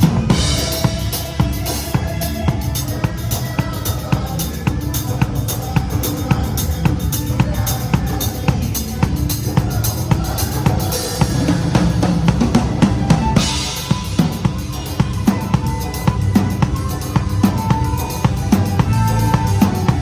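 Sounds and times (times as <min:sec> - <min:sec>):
band music: 0:00.0 - 0:20.0
cymbals crashing: 0:00.0 - 0:20.0.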